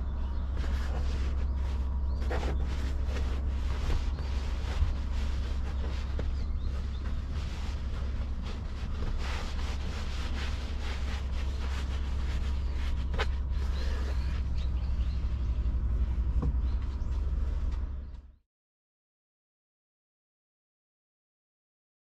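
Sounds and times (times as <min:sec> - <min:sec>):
felt sheet rustling and scraping: 0:00.0 - 0:17.8
wind rumble on microphone: 0:00.0 - 0:18.4.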